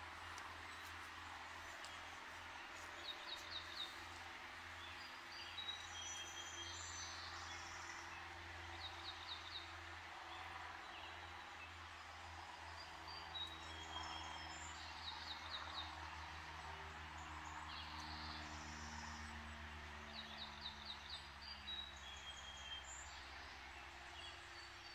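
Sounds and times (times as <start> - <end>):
road traffic hum: 0.0 - 24.9
songbirds singing: 0.0 - 24.9.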